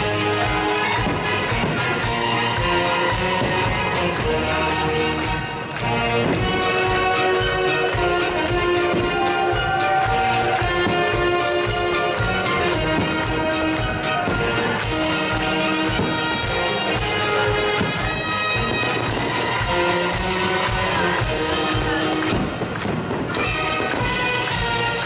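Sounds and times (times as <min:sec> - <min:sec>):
brass band chords: 0:00.0 - 0:25.0.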